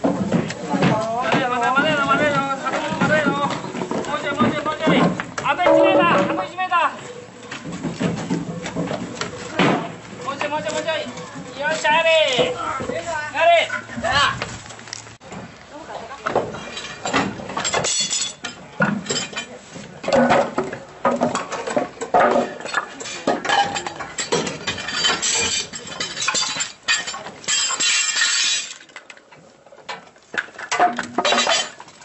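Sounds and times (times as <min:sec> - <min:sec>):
tools knocking wood and metal: 0:00.0 - 0:06.7, 0:07.4 - 0:13.0, 0:16.3 - 0:29.1, 0:29.8 - 0:31.9.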